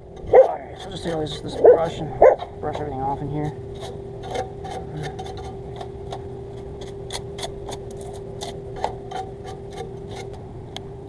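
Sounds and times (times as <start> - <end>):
steady hum: 0.0 - 11.0
brush scrubbing: 0.3 - 10.3.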